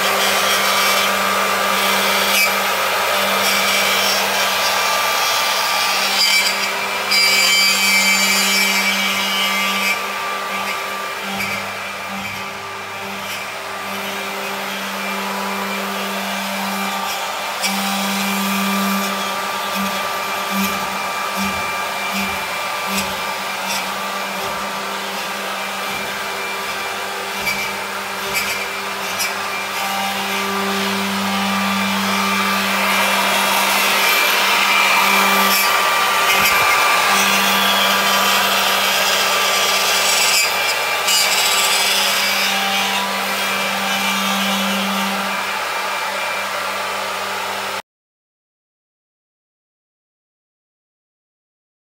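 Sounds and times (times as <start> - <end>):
electric machinery whirring and humming: 0.0 - 47.8.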